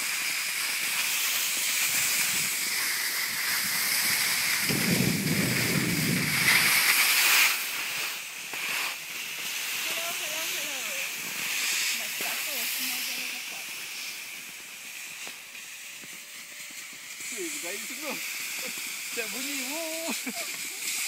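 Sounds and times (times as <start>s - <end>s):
skis hissing on packed snow: 0.0s - 21.0s.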